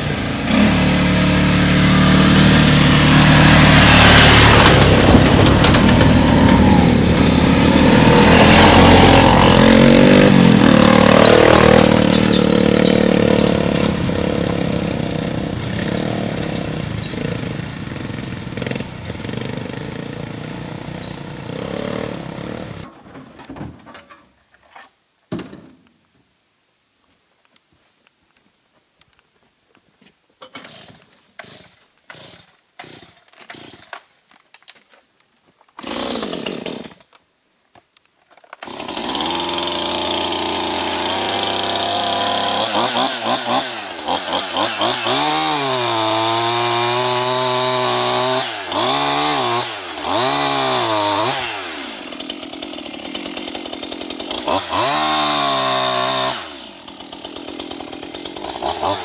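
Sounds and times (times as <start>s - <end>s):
chainsaw revving and sawing: 0.0s - 22.9s, 30.4s - 34.1s, 35.8s - 37.1s, 38.6s - 59.0s.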